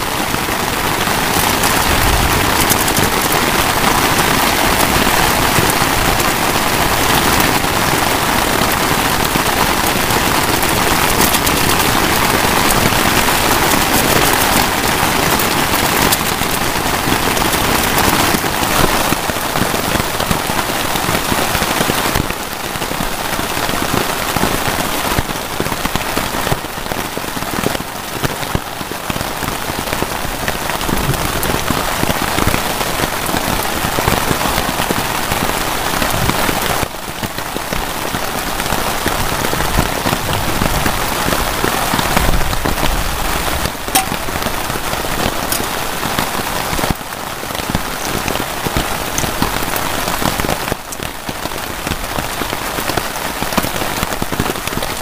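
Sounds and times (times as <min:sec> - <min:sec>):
heavy rain on a tarp: 0:00.0 - 0:55.0.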